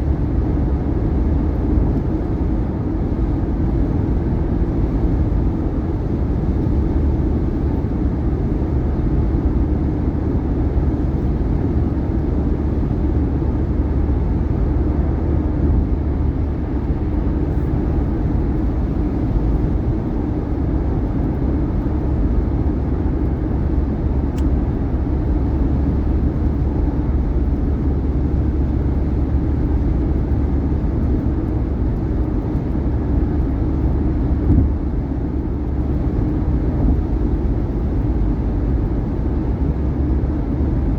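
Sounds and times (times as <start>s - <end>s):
tire and road noise: 0.0s - 40.9s.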